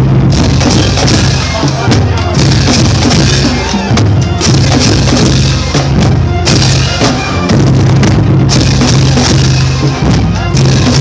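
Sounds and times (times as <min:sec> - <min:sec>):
drum hits: 0:00.0 - 0:11.0.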